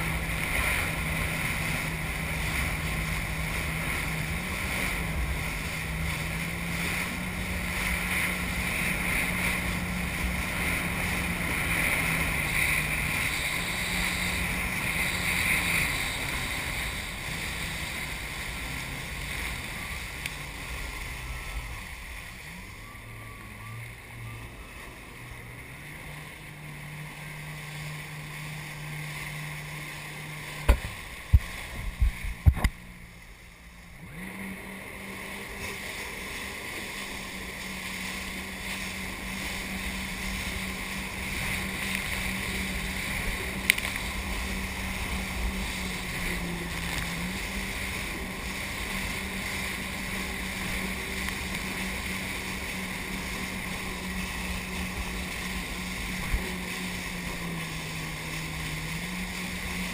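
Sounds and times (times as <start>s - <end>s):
jet ski engine running: 0.0s - 59.9s
water rushing past hull: 0.0s - 59.9s.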